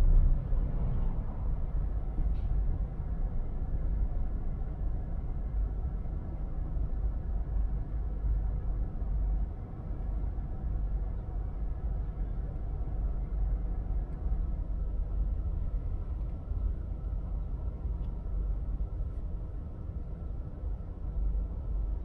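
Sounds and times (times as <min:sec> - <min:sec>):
car driving rumble: 0:00.0 - 0:07.2, 0:08.0 - 0:22.0.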